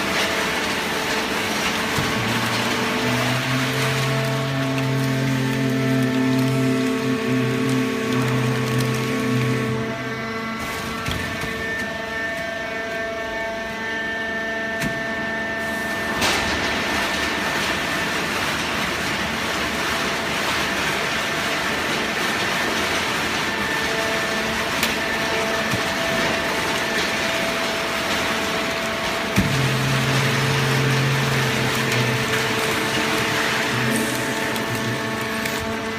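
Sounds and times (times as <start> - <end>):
machine whine: 0.0 - 35.9.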